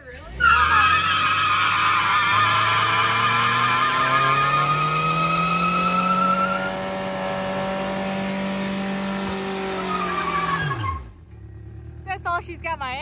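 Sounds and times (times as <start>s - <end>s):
van engine revving high: 0.0s - 12.7s.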